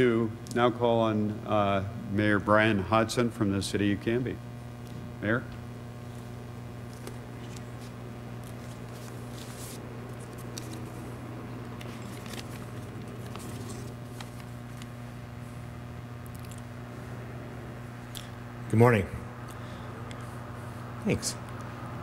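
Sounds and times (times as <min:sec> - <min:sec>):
higher hum: 0:00.0 - 0:22.0
steady low hum: 0:00.0 - 0:22.0.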